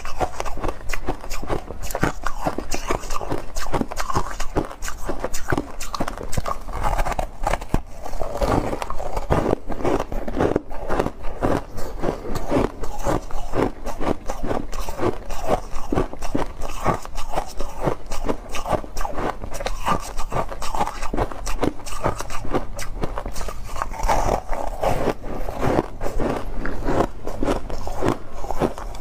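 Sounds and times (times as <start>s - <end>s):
ice crunching while chewing: 0.0s - 29.0s.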